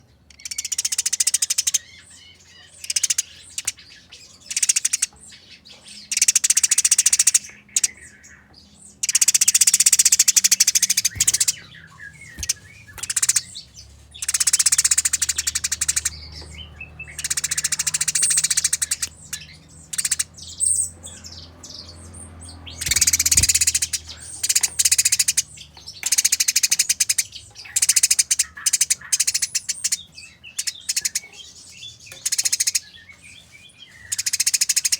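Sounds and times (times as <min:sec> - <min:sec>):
sparrows harsh chattering calls: 0:00.0 - 0:34.9.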